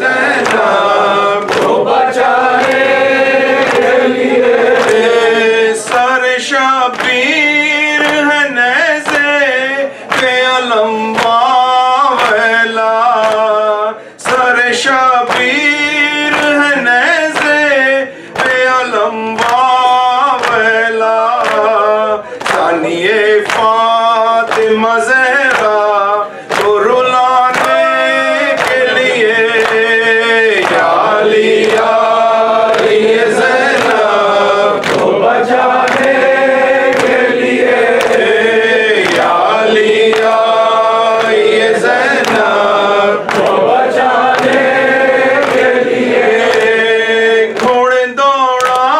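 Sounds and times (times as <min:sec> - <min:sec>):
man chanting a lament into a microphone: 0:00.0 - 0:02.7, 0:03.8 - 0:48.9
group of men chanting: 0:00.0 - 0:47.9.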